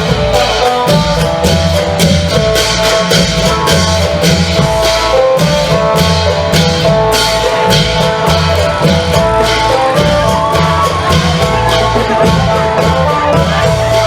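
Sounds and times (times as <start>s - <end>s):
drums fast driving beat: 0.0s - 14.0s.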